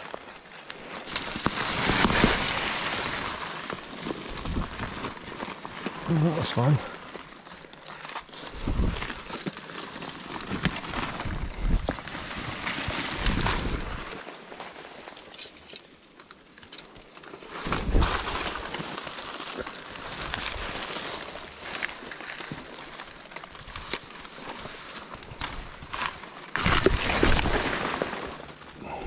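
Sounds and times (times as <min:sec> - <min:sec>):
dry leaves and twigs crunching: 0:00.0 - 0:29.0.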